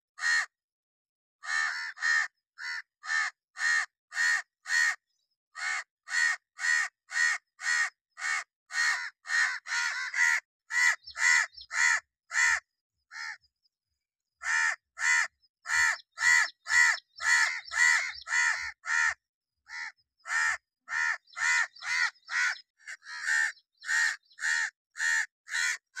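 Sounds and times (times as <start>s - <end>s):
crow cawing: 0.2s - 0.6s, 1.4s - 13.5s, 14.4s - 26.0s.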